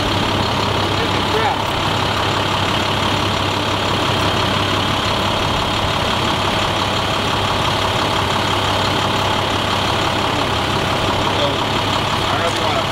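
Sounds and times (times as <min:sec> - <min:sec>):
truck engine idling: 0:00.0 - 0:12.9.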